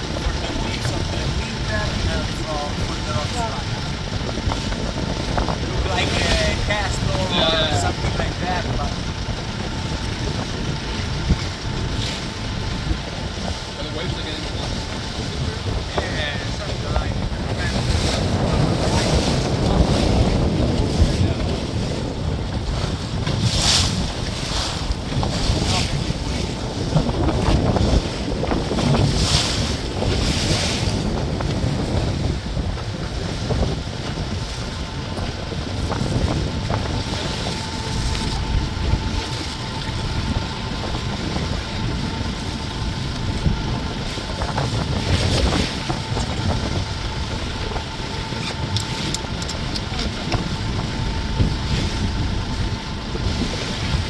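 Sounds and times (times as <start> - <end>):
thin steady whine: 0.0 - 22.7, 33.0 - 54.0
boat engine running: 0.0 - 54.0
water splashing against hull: 0.0 - 54.0
wind buffeting microphone: 0.0 - 54.0.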